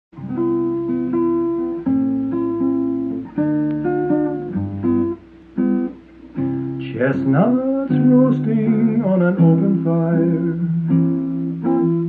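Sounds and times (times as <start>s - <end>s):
guitar chords ringing: 0.2s - 12.0s.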